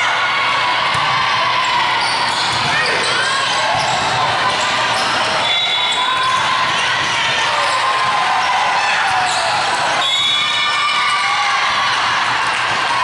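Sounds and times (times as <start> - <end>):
people shouting: 0.0 - 13.0.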